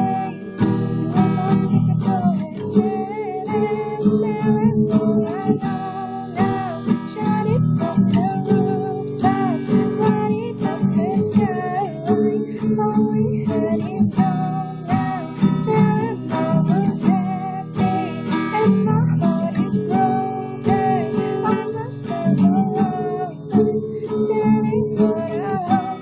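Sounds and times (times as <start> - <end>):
acoustic guitar strumming: 0.0 - 26.0
person singing: 0.0 - 26.0.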